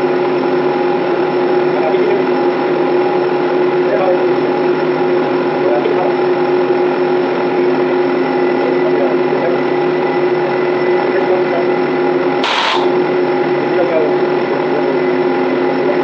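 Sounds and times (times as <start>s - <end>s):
loud machinery drone: 0.0s - 16.0s.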